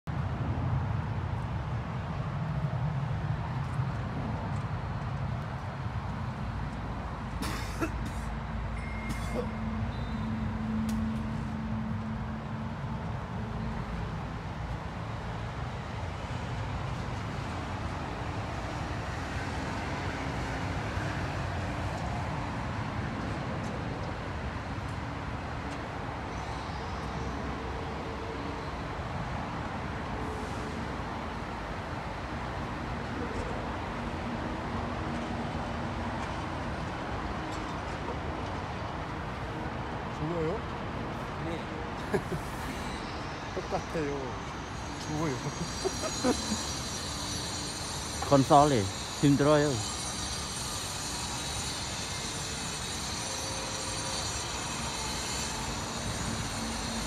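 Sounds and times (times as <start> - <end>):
road traffic rumble: 0.2 - 57.0.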